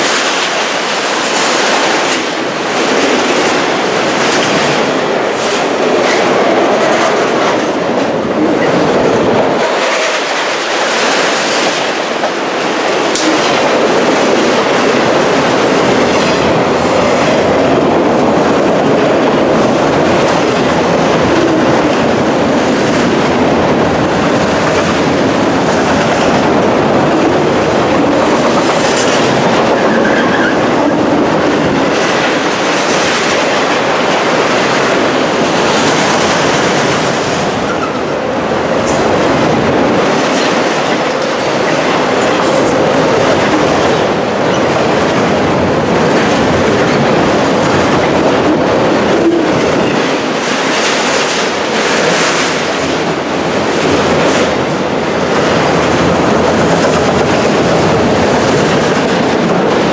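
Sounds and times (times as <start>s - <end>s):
wheels clickety-clack: 0.0s - 38.1s, 38.7s - 59.9s
steel wheels rumbling on rail: 0.0s - 59.9s.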